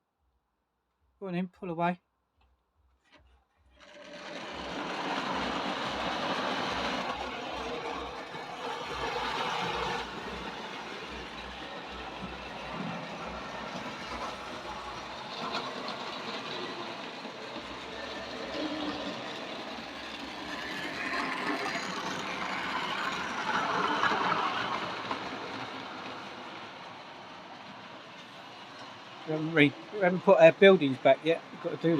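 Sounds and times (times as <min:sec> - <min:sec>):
model train motor whirring: 0:03.6 - 0:31.9.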